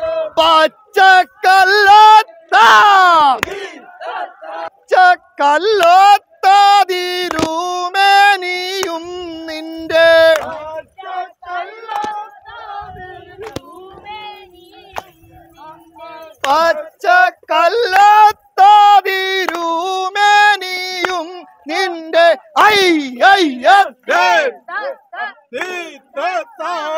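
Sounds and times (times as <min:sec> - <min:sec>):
group singing: 0:00.0 - 0:26.9.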